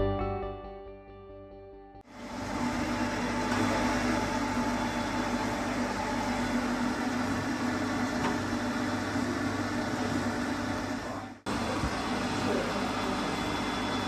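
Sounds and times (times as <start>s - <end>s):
surface grinder humming: 2.1s - 14.0s.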